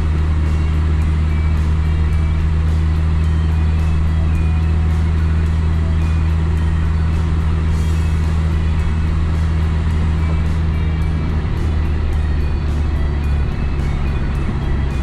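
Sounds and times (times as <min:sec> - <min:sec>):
car driving drone: 0:00.0 - 0:15.0
music with light beat: 0:00.0 - 0:15.0.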